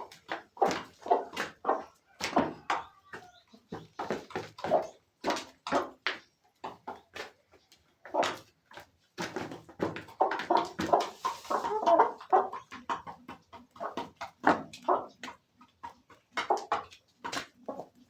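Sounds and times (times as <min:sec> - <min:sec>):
chickens clucking and squawking: 0:00.0 - 0:18.0.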